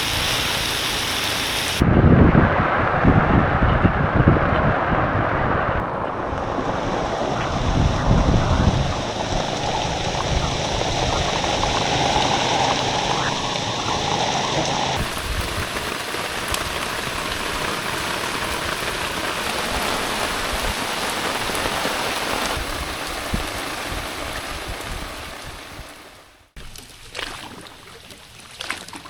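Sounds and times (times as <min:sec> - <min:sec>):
water splashes: 0:00.0 - 0:01.9, 0:02.8 - 0:29.0
heavy rain falling: 0:00.0 - 0:26.3.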